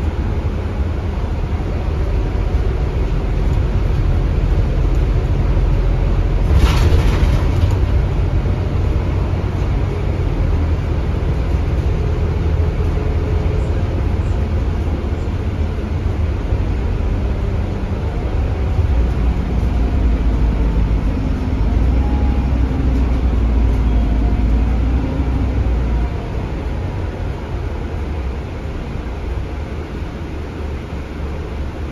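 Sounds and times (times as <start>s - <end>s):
bus diesel engine running: 0.0s - 31.9s.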